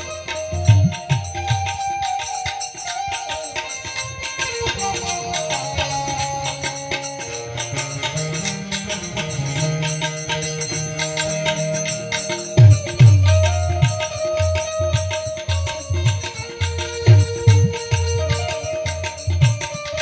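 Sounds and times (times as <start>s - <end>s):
held melody notes: 0.0s - 20.0s
jingling hand percussion: 0.0s - 20.0s.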